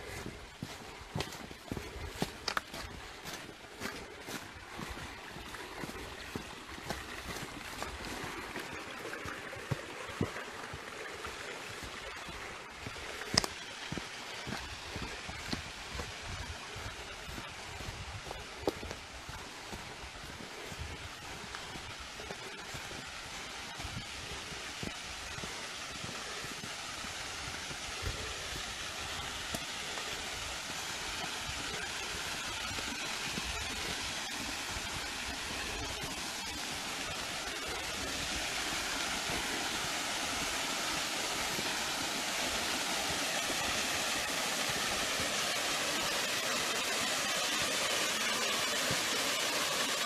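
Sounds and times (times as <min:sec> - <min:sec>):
forest stream rushing: 0:00.0 - 0:50.0.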